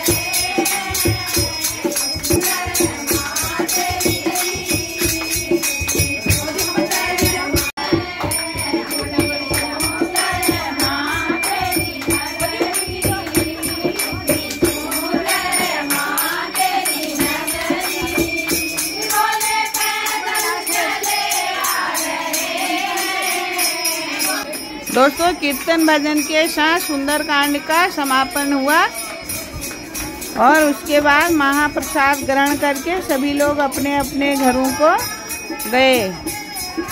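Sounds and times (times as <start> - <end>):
hand percussion beat: 0.0 - 36.9
jingling: 0.0 - 36.9
women singing devotional song: 0.0 - 36.9.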